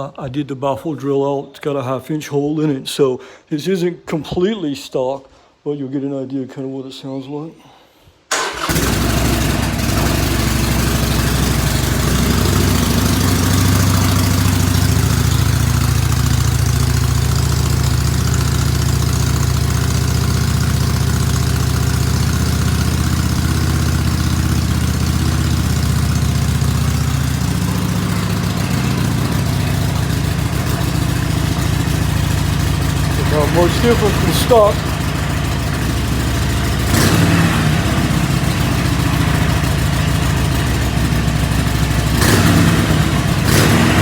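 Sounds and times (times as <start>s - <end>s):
motorcycle engine idling: 8.4s - 44.0s.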